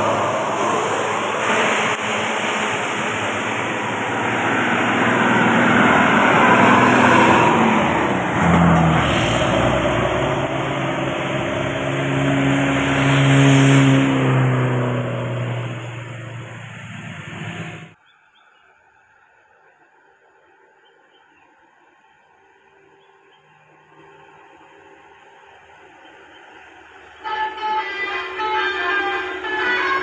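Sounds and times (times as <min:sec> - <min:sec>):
bus engine passing: 0:00.0 - 0:18.0, 0:22.0 - 0:30.0
traffic noise: 0:00.0 - 0:30.0.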